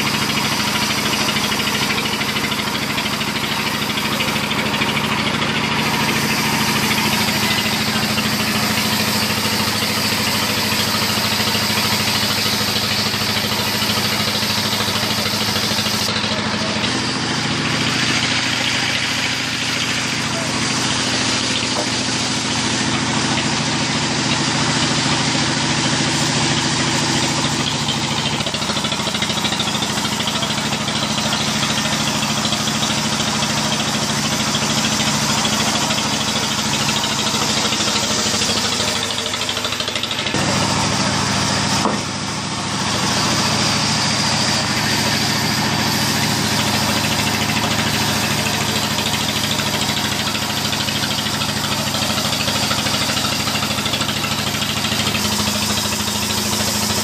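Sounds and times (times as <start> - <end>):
band saw cutting log: 0.0 - 57.0
machine humming: 0.0 - 57.0.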